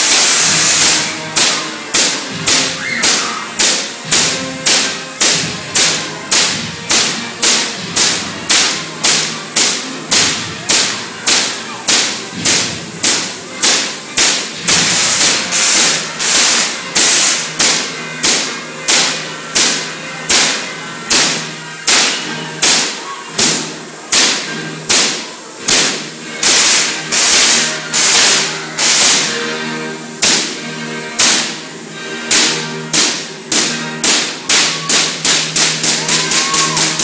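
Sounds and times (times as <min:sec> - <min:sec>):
sharp electric spark cracks: 0:00.0 - 0:29.5, 0:30.2 - 0:30.6, 0:31.2 - 0:31.6, 0:32.3 - 0:37.0.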